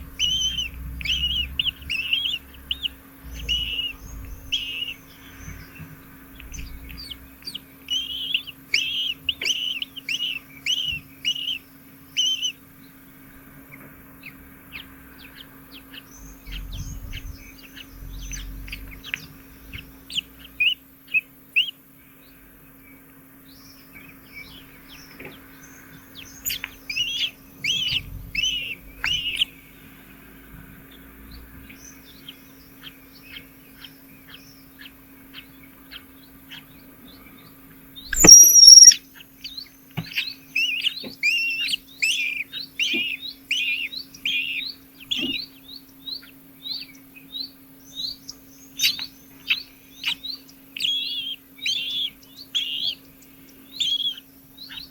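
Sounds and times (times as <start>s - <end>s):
nestlings chirping: 0.0s - 12.6s, 14.2s - 21.8s, 23.5s - 29.7s, 30.9s - 54.9s
faint steady hum: 0.0s - 54.9s.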